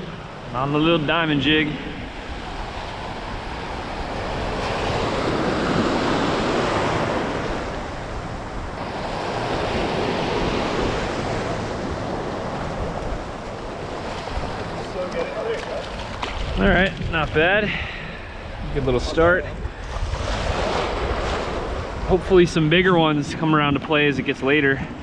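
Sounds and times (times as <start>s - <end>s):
small waves breaking: 1.1s - 18.7s, 19.5s - 22.2s.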